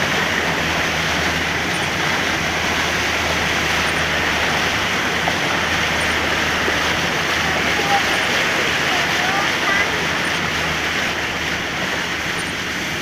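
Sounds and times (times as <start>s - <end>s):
heavy rain and floodwater rushing: 0.0s - 13.0s
vehicle engine hum: 0.0s - 13.0s.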